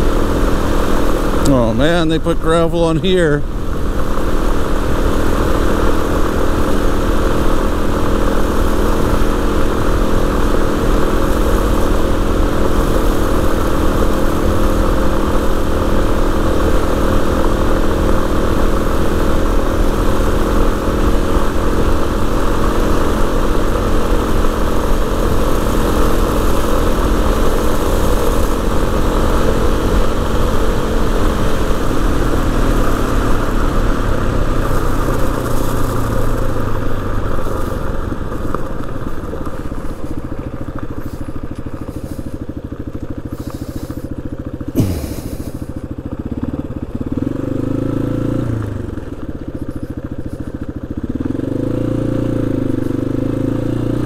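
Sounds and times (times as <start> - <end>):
motorcycle engine running: 0.0 - 54.0
tyres on gravel: 1.1 - 46.4.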